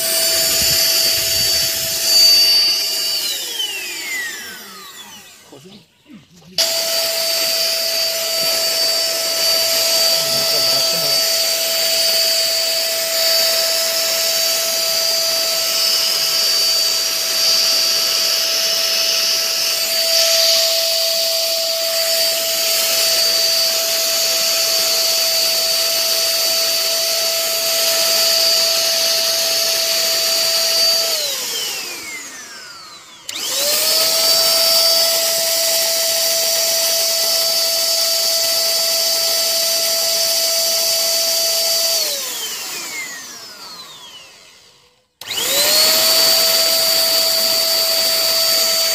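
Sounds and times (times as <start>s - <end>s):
electric motor whining: 0.0s - 48.9s.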